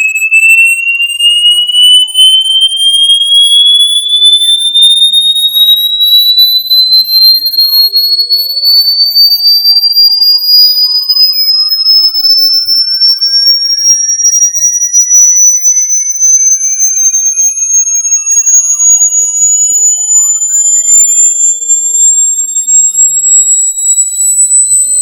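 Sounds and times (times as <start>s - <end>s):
rising electronic test tone: 0.0s - 25.0s.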